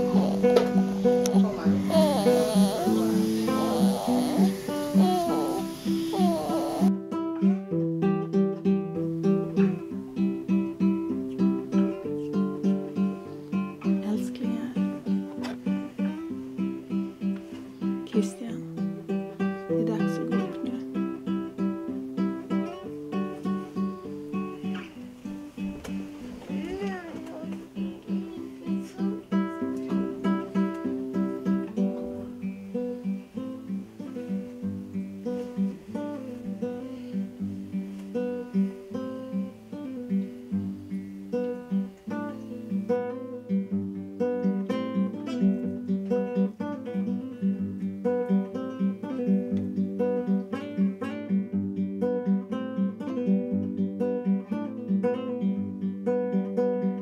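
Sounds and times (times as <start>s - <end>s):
acoustic guitar picking: 0.0s - 57.0s.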